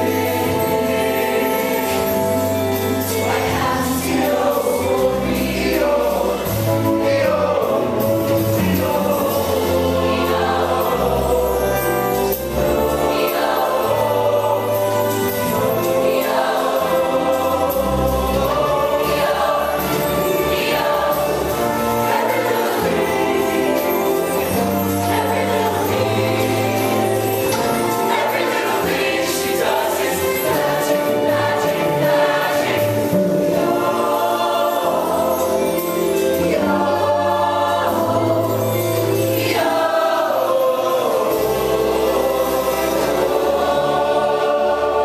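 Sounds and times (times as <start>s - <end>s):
instrumental accompaniment: 0.0s - 45.0s
mixed choir singing: 0.0s - 45.0s.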